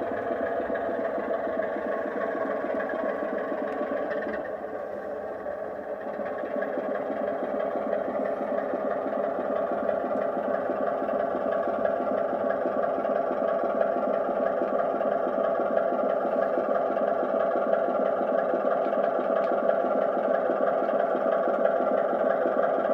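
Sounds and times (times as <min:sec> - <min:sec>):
diesel engine sound through small speaker: 0:00.0 - 0:22.9.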